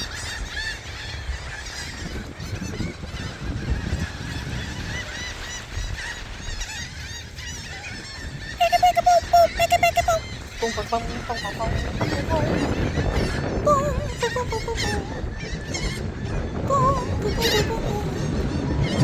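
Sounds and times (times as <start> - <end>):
seagulls calling: 0.0 - 19.0.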